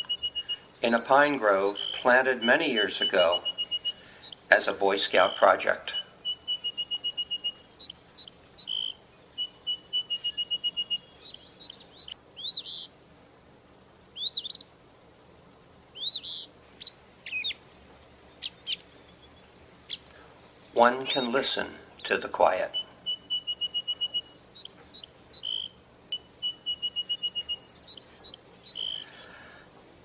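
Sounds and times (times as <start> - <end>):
songbird trills: 0.0 - 13.0, 14.1 - 14.8, 15.9 - 30.0.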